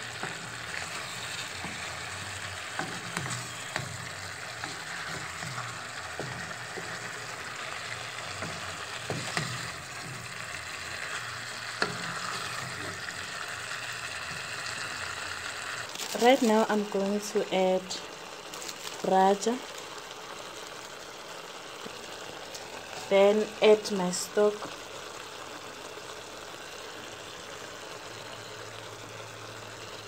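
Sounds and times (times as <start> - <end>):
meat sizzling in hot oil: 0.0 - 30.0.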